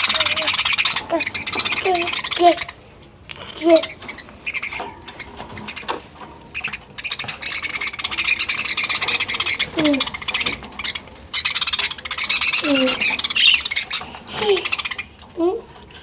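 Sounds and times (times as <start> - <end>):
budgerigars chattering: 0.0 - 16.0
low falling bird calls: 0.0 - 16.0.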